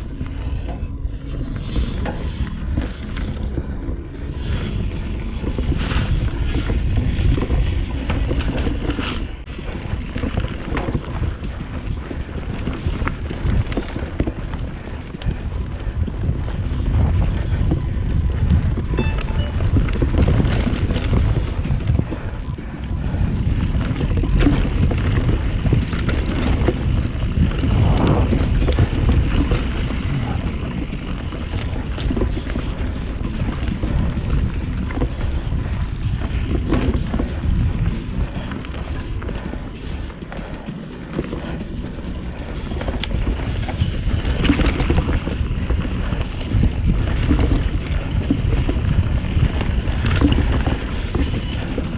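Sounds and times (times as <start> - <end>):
bike rattling: 0.0 - 51.9
tyres rolling over roots and rocks: 0.0 - 51.9
wind buffeting microphone: 0.0 - 51.9.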